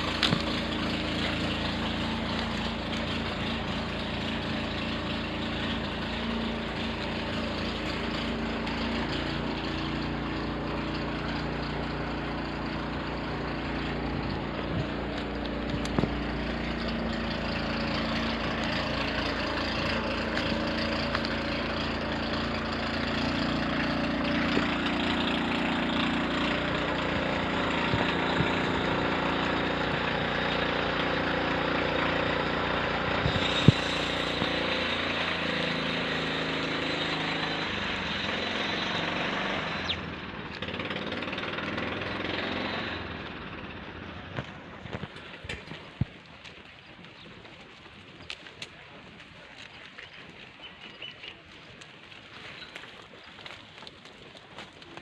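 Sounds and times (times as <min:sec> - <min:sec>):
motor engine running: 0:00.0 - 0:55.0.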